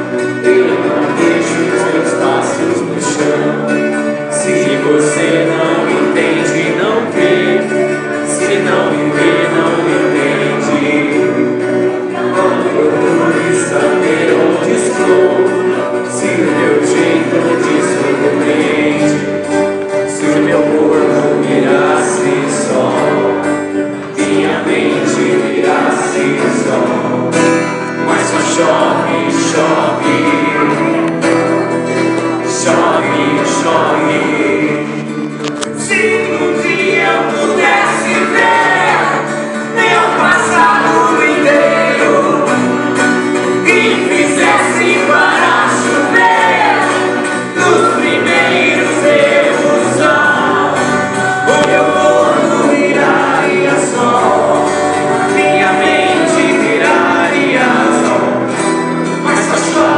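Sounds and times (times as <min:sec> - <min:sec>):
acoustic and electric guitars: 0:00.0 - 0:59.9
man singing lead: 0:00.0 - 0:59.9.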